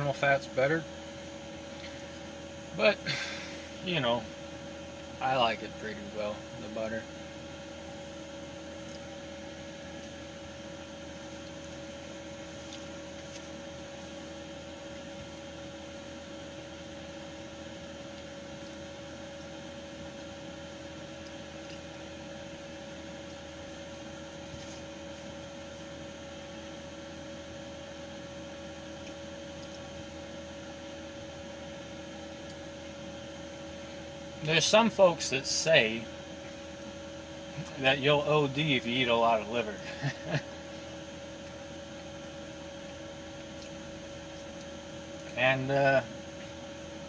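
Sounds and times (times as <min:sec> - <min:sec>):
two-tone electrical hum: 0:00.0 - 0:47.0.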